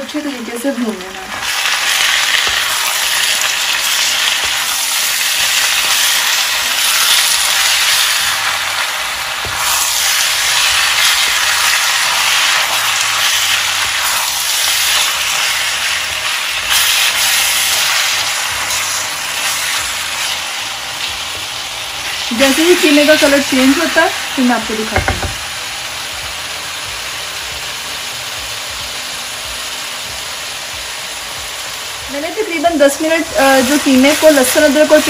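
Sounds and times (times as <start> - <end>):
meat sizzling in oil: 0.0 - 35.0.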